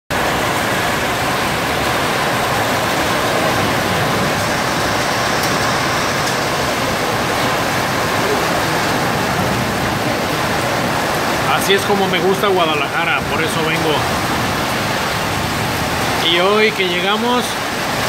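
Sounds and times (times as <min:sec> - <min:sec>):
heavy rain: 0:00.1 - 0:18.0.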